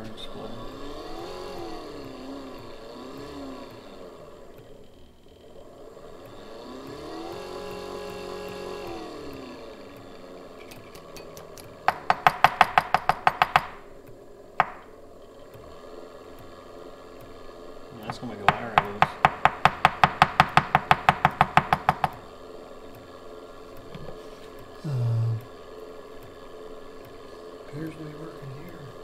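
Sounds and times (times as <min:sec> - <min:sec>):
gear motor whining: 0:00.0 - 0:29.0.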